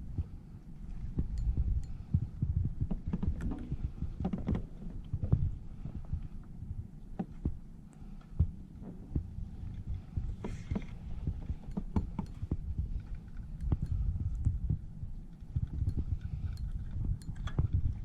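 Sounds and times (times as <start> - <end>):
muffled thumping and rumble: 0.0 - 18.0
small knocks and clicks: 1.2 - 5.5, 7.2 - 14.6, 15.3 - 18.0.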